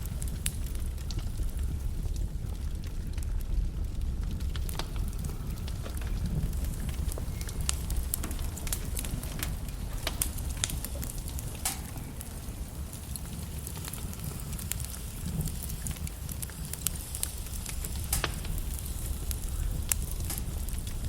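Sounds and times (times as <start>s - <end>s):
logs burning in fireplace: 0.0s - 21.0s.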